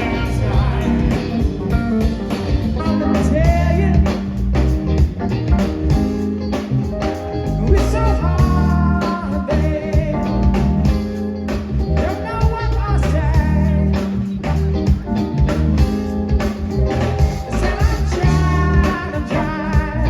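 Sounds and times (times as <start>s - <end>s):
bass: 0.0s - 20.0s
drums steady beat: 0.0s - 20.0s
guitar: 0.0s - 20.0s.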